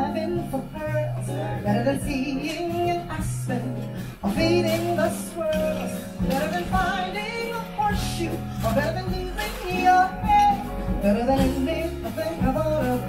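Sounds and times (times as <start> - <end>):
jazz band accompaniment: 0.0 - 13.0
woman singing: 0.0 - 13.0.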